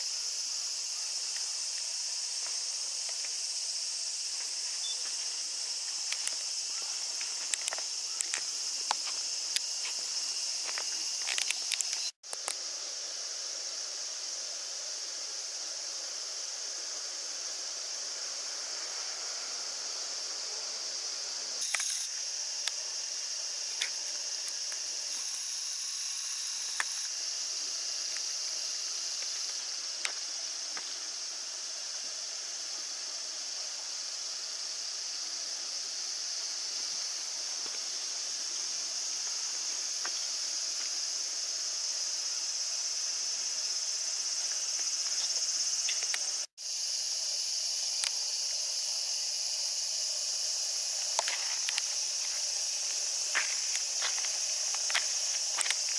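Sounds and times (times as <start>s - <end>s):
cicadas droning: 0.0s - 55.9s.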